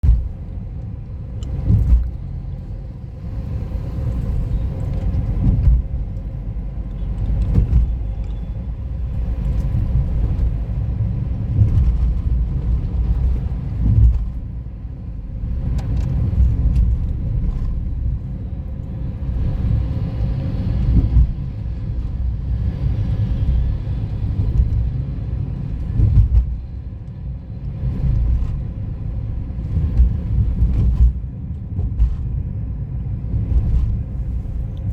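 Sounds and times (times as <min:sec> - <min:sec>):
motorcycle road rumble: 0:00.0 - 0:34.9.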